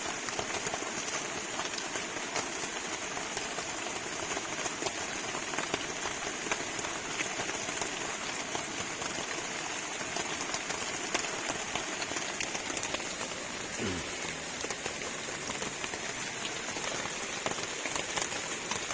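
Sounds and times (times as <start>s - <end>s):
heavy rain falling: 0.0s - 18.9s
raindrops tapping close by: 0.0s - 18.9s.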